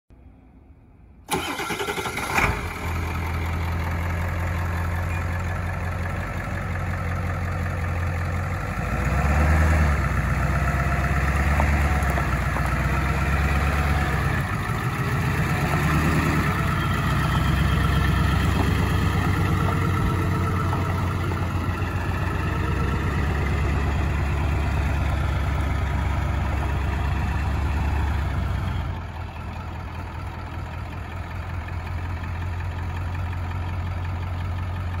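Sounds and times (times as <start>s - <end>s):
diesel engine idling: 1.2s - 35.0s.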